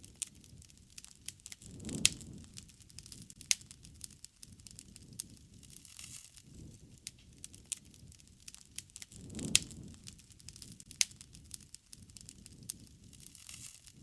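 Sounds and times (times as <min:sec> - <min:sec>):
campfire crackling and snapping: 0:00.0 - 0:14.0
low rush of flame: 0:00.0 - 0:14.0.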